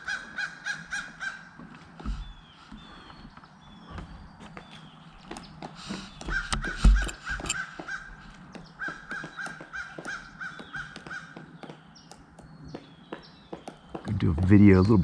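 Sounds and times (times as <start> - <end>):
woodpecker calling: 0.0 - 15.0
footsteps clicking: 0.2 - 15.0.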